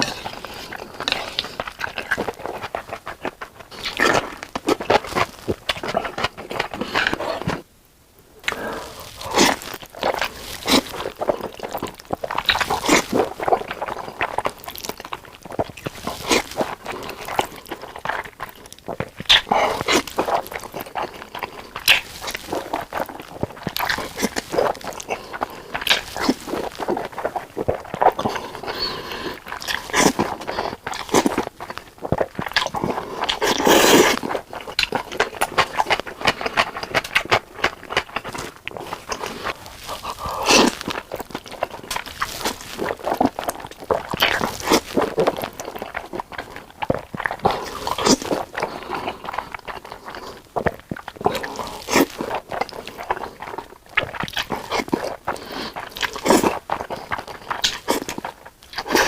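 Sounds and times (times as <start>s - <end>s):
person chewing and biting food: 0.0s - 7.6s, 8.4s - 59.0s
food crunching: 0.0s - 7.7s, 8.4s - 59.0s.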